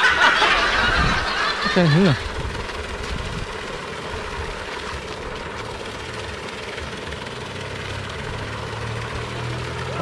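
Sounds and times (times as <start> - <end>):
aerator motor drone: 0.0 - 10.0
churned water wash: 0.0 - 10.0
low hum: 0.0 - 10.0.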